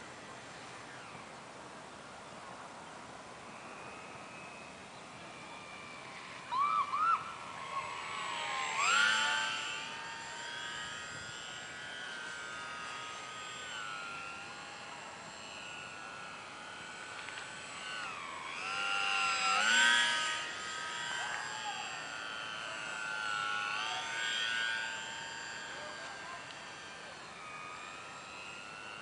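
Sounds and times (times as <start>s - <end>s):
model airplane motor whining: 0.0s - 29.0s.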